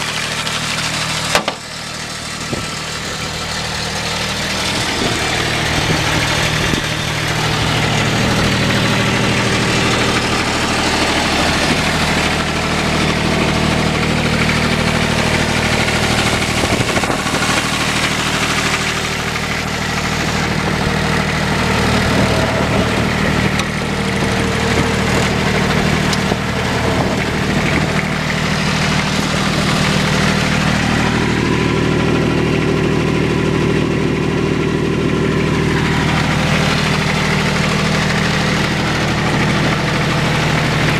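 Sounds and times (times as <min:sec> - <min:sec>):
diesel engine idling: 0:00.0 - 0:40.9
higher engine tone: 0:00.0 - 0:40.9.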